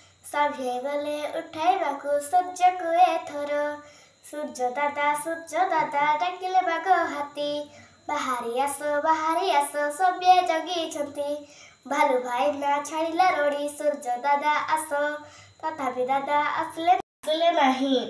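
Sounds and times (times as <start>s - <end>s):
boy singing: 0.3s - 18.0s.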